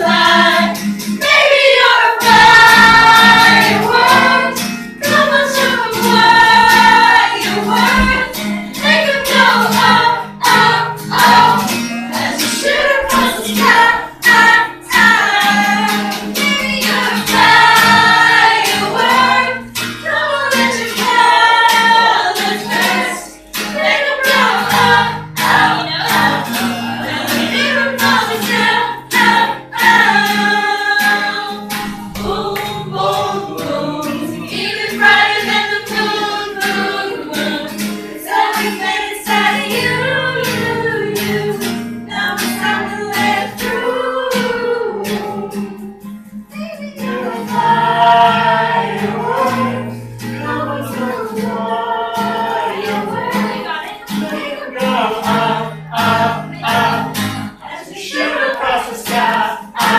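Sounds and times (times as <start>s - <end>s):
strummed acoustic guitar: 0.0s - 59.9s
person singing: 1.8s - 59.9s.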